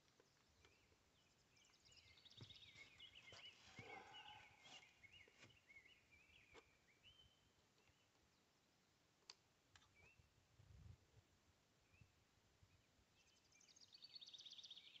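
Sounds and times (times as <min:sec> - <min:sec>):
faint warbling birdsong: 0:00.0 - 0:09.0, 0:11.8 - 0:15.0.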